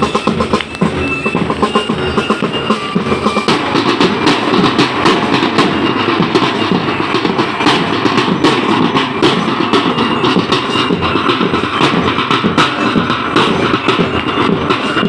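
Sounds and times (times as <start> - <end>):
marching drums playing: 0.0 - 15.0.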